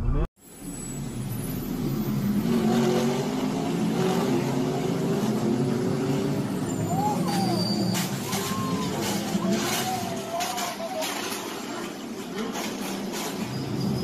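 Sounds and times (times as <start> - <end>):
race car engines: 0.8 - 14.0.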